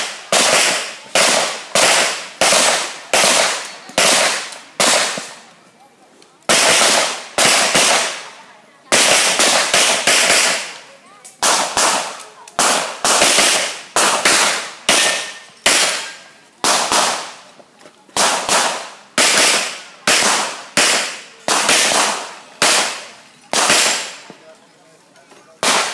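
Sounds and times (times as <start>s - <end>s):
pistol shots echoing: 0.0s - 5.3s, 6.5s - 8.3s, 8.9s - 10.8s, 11.4s - 17.4s, 18.2s - 24.3s, 25.6s - 25.9s.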